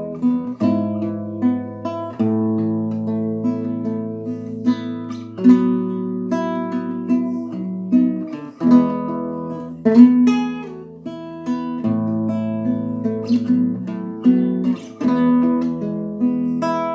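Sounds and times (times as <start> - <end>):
acoustic guitar chords: 0.0 - 16.9.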